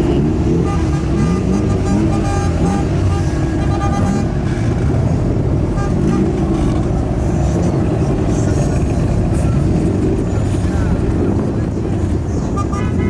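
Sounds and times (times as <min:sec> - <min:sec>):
vehicle engines revving: 0:00.0 - 0:13.0.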